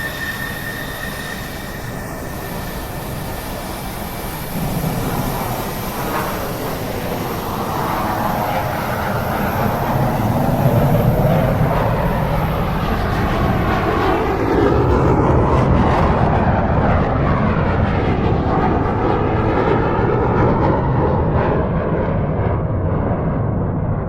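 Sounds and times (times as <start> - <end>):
airplane engine noise: 0.0 - 24.0.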